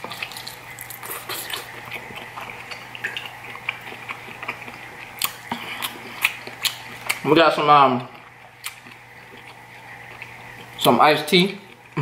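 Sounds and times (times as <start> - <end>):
close chewing with wet smacks: 0.0 - 7.3, 7.9 - 10.9.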